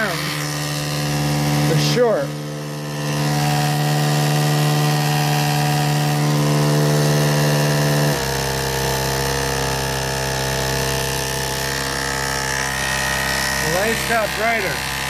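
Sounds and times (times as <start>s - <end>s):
pump motor humming: 0.0s - 15.0s.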